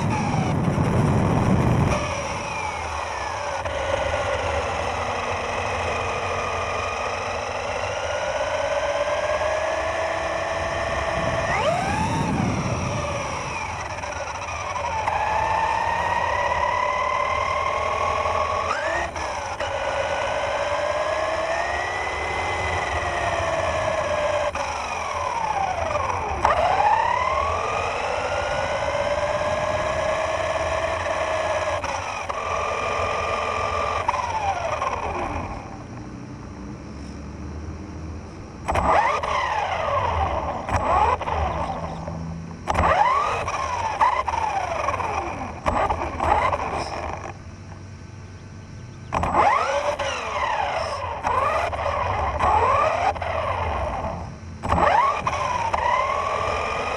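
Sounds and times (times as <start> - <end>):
toy car motor whining: 0.0 - 36.2, 38.6 - 56.9.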